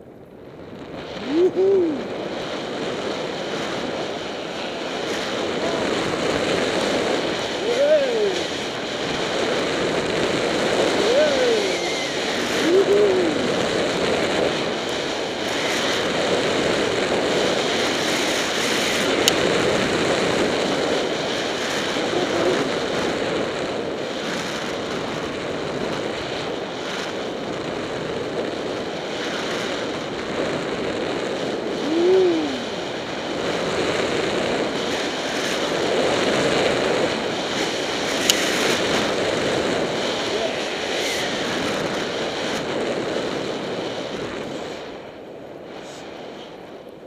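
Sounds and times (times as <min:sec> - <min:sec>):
wind buffeting microphone: 0:00.0 - 0:47.0
skis rushing through powder snow: 0:00.9 - 0:45.1.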